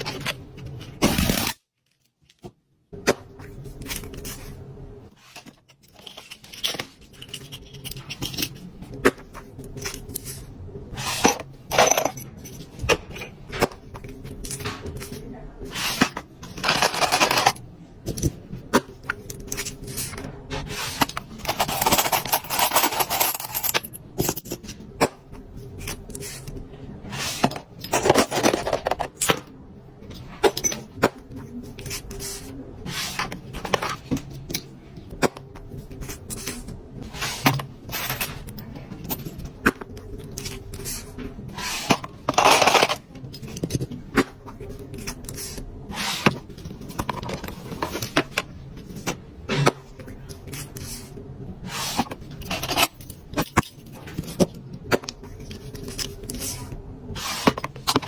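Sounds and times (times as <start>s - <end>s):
items clicking and tapping: 0.0s - 58.0s.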